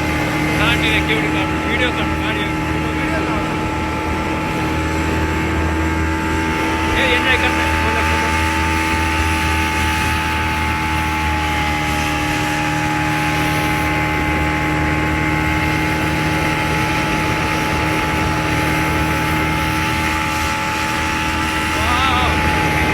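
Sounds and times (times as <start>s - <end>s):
speedboat engine drone: 0.0s - 22.9s.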